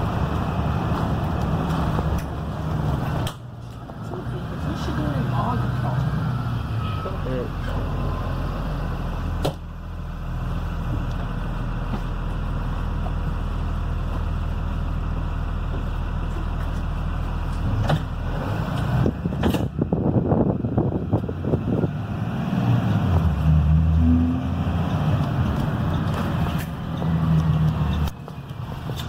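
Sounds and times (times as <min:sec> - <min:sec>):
diesel bus engine driving: 0:00.0 - 0:29.0.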